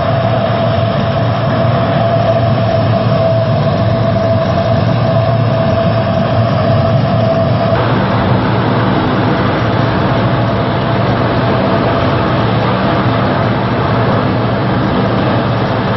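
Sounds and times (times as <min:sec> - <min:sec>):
turboprop engines idling: 0:00.0 - 0:15.9.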